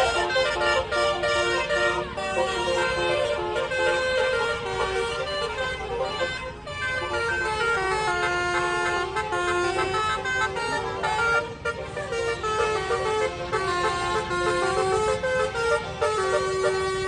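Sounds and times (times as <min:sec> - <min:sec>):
bus horn playing a melody: 0:00.0 - 0:17.0.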